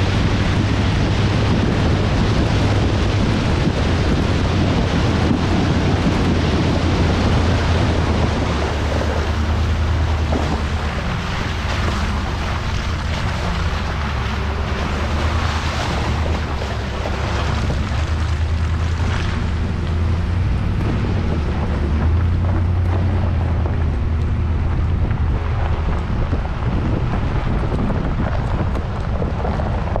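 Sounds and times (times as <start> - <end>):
truck engine deep rumble: 0.0 - 30.0
tyres rolling over gravel: 0.0 - 30.0
wind noise on microphone: 0.0 - 30.0.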